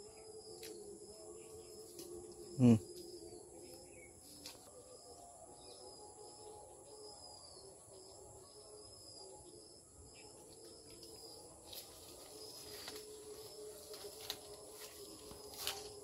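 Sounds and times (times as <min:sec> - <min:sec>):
birds chirping: 0:00.0 - 0:16.0
insects droning: 0:00.0 - 0:16.0.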